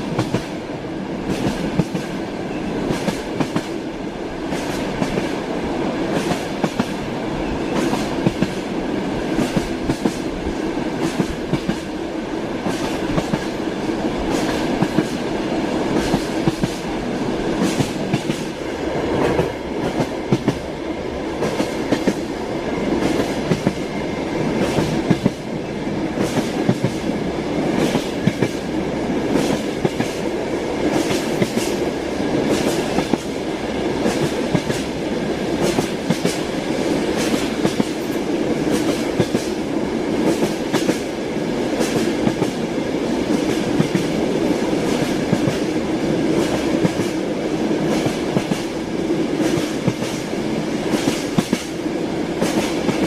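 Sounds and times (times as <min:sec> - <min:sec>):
train carriage rumble: 0:00.0 - 0:53.0
train wheels clicking on rail joints: 0:00.0 - 0:53.0.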